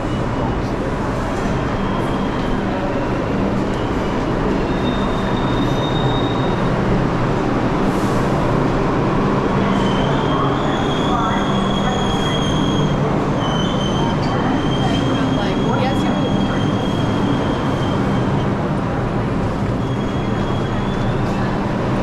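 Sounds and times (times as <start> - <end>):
subway train rumbling on rails: 0.0 - 22.0.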